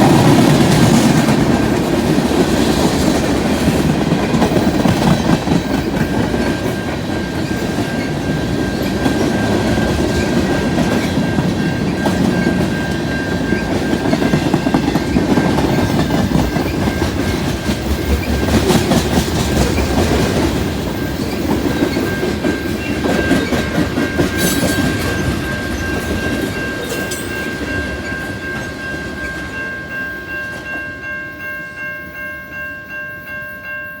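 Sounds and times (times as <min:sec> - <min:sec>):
train wheels clacking over rail joints: 0:00.0 - 0:29.6
crossing bell ringing: 0:00.0 - 0:34.0.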